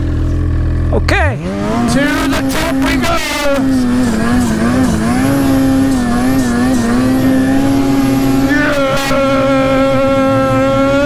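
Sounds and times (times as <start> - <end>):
higher steady engine note: 0.0 - 11.0
snowmobile engine revving: 0.0 - 11.0.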